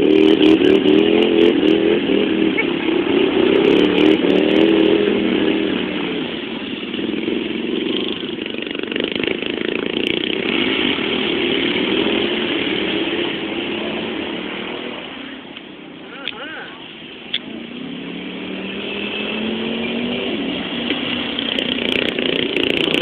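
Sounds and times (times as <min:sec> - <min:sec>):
small mower engine revving: 0:00.0 - 0:15.5, 0:17.4 - 0:23.0.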